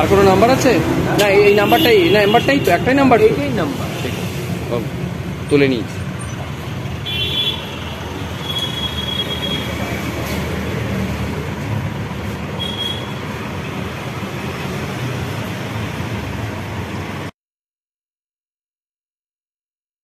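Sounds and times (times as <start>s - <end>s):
street traffic rumble: 0.0s - 17.3s.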